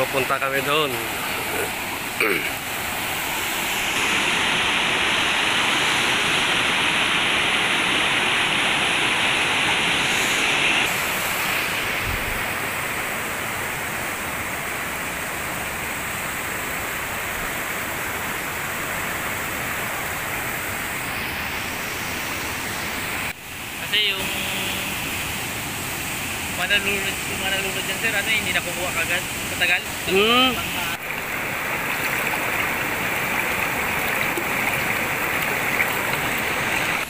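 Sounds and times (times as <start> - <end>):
river rushing over boulders: 0.0 - 37.0.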